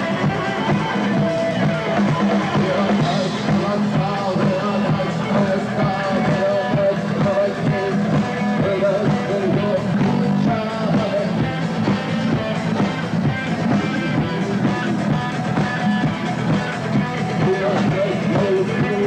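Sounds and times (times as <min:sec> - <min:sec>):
person singing: 0:00.0 - 0:19.0
rock band playing live: 0:00.0 - 0:19.0.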